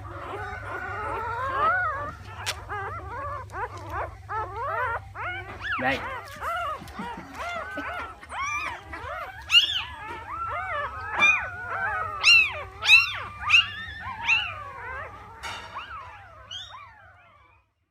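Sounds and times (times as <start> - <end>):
puppies yelping and whining: 0.0 - 17.9.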